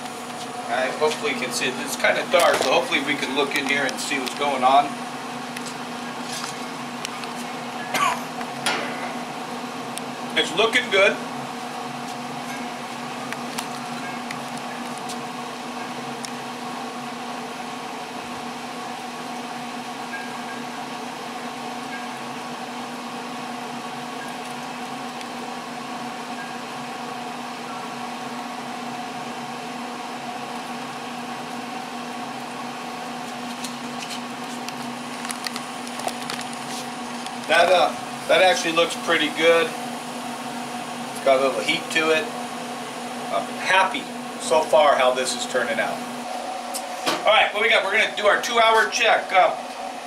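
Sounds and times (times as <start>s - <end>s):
fan electric hum: 0.0s - 50.0s.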